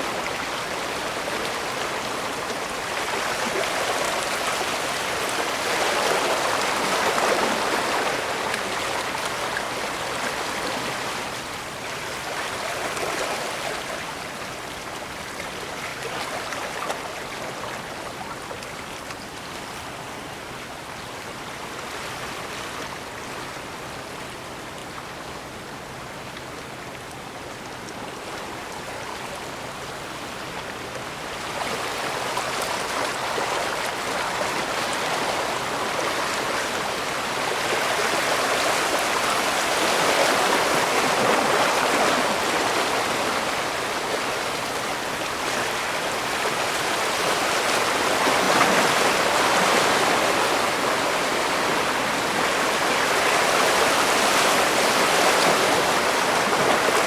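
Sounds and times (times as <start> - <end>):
water washing along shoreline: 0.0 - 57.0.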